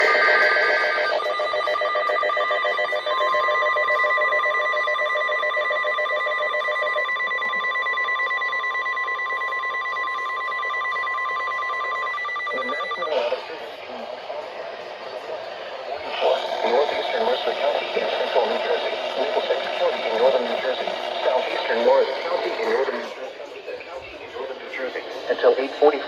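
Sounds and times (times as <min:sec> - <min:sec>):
pulsing electronic tones: 0:00.0 - 0:08.5, 0:09.1 - 0:26.0
digital header tones: 0:00.0 - 0:13.6, 0:16.0 - 0:23.3
steady warning alarm tone: 0:00.0 - 0:26.0.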